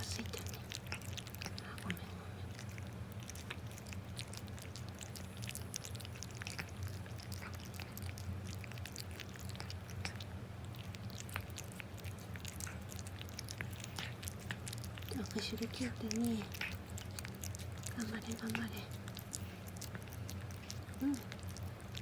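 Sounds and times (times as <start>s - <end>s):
cat chewing and licking: 0.0s - 22.0s
steady low hum: 0.0s - 22.0s.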